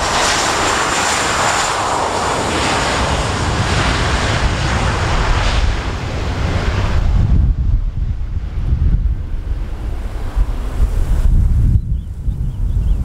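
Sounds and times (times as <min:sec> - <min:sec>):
jet engines rushing past: 0:00.0 - 0:13.0.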